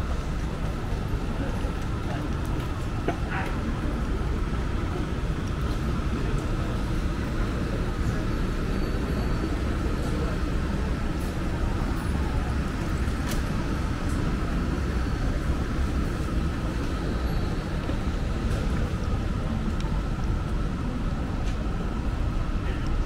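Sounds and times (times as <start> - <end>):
low traffic rumble: 0.0 - 23.0.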